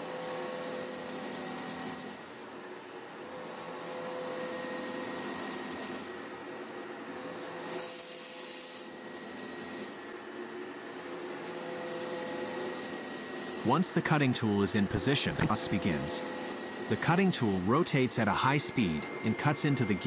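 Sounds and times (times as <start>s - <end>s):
gear cutting machine whine: 0.0s - 20.0s.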